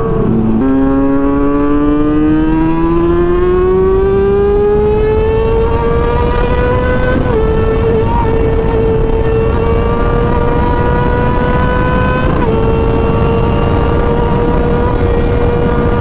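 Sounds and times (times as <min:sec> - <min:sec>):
heavy rumble: 0:00.0 - 0:16.0
vehicle engine at high revs: 0:00.0 - 0:16.0.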